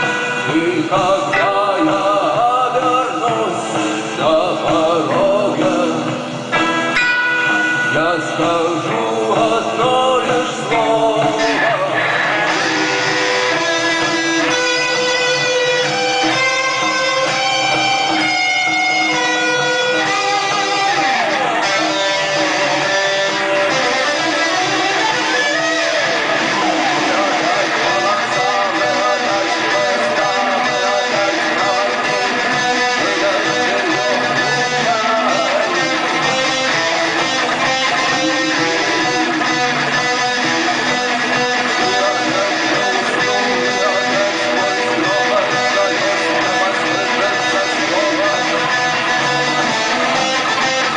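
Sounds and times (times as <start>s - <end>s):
electric guitar bending notes: 0.0s - 50.9s
rock band backing: 0.0s - 50.9s.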